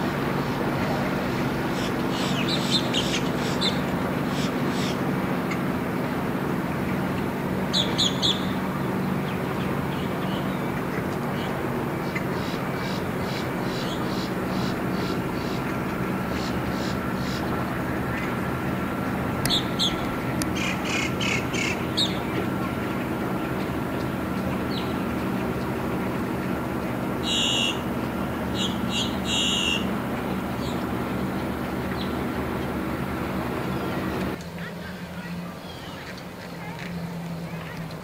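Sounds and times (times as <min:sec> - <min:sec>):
birds calling: 0:00.0 - 0:34.4
outboard motor humming: 0:00.0 - 0:38.0.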